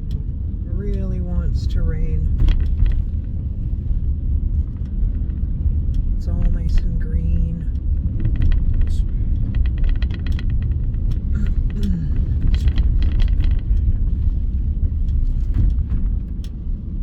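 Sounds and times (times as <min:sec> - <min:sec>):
road and engine rumble: 0:00.0 - 0:17.0
light ticks and taps: 0:02.3 - 0:17.0.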